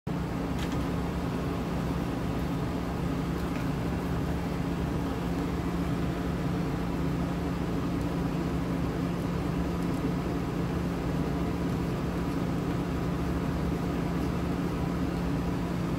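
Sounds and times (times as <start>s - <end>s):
machine humming: 0.1s - 15.9s.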